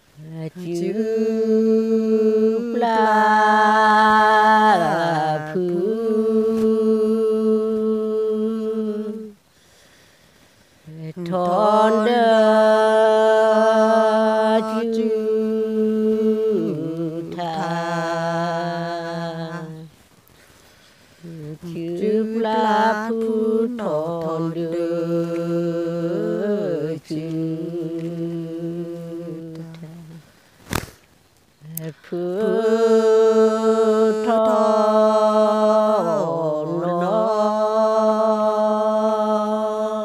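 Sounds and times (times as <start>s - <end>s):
woman singing unaccompanied chant: 0.0s - 9.5s, 10.8s - 20.0s, 21.1s - 30.3s, 31.6s - 40.0s.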